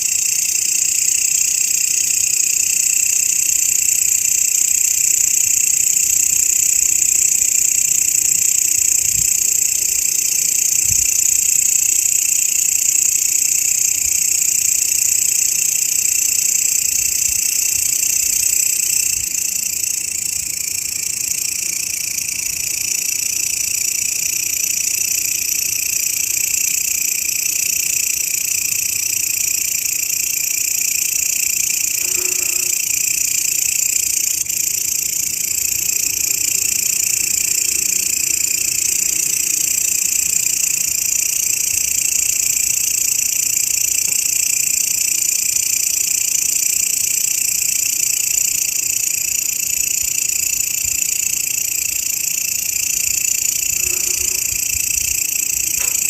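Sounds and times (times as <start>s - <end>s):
grasshoppers stridulating: 0.0s - 56.0s.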